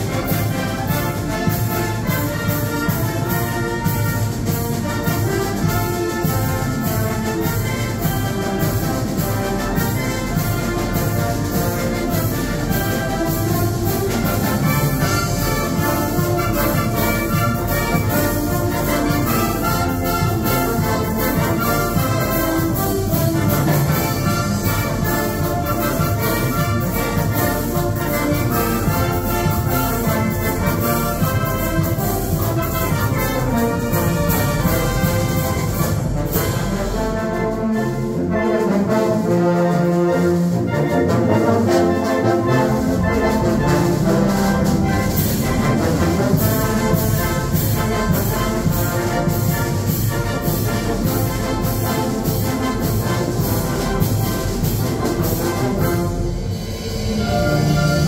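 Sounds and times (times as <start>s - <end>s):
low brass long held notes: 0.0s - 58.0s
wind band playing: 0.0s - 58.0s.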